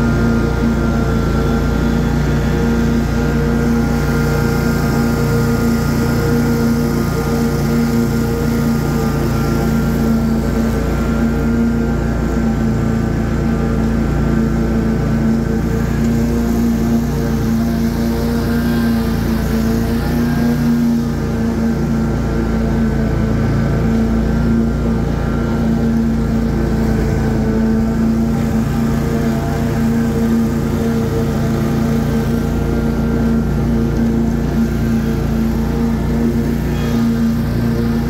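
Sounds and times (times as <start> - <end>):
ride-on lawn mower engine: 0.0 - 38.0.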